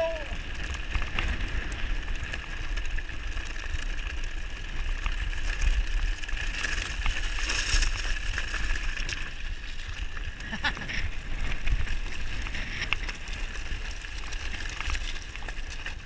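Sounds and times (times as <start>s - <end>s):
bike clicks and rattles: 0.0s - 16.0s
tyres crunching over gravel: 0.2s - 16.0s.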